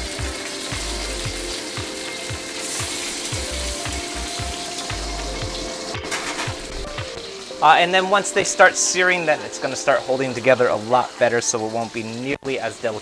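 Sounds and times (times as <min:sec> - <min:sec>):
lo-fi music with steady beat: 0:00.0 - 0:10.6
meatballs sizzling in oil: 0:00.0 - 0:13.0.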